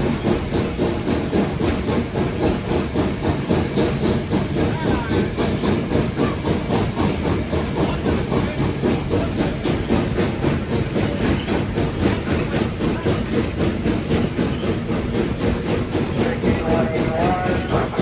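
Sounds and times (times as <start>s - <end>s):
steam hissing: 0.0s - 18.0s
steam locomotive exhaust chuff: 0.0s - 18.0s.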